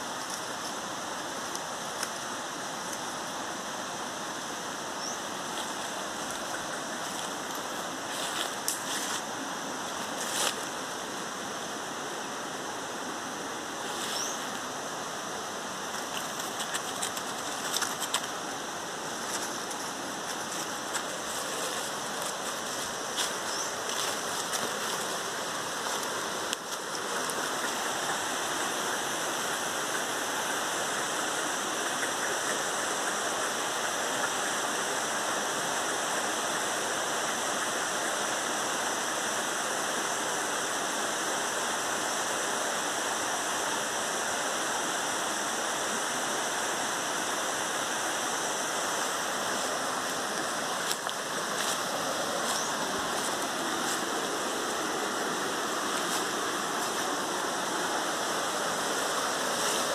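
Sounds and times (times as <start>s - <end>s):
steady rushing noise: 0.0s - 40.2s, 43.8s - 59.9s.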